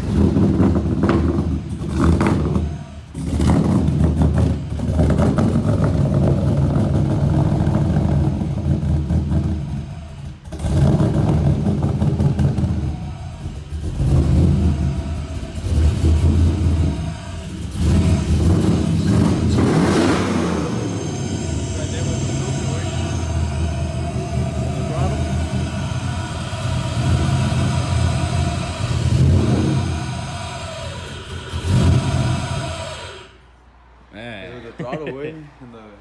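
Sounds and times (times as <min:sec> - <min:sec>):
truck engine revving: 0:00.0 - 0:34.8.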